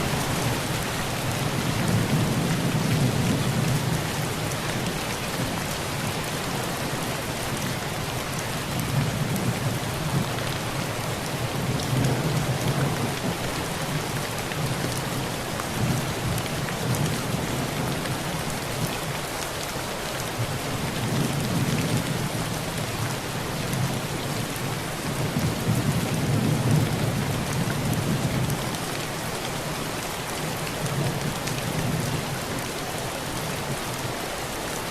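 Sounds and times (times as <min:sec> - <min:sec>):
heavy rain on a tin roof: 0:00.0 - 0:34.9.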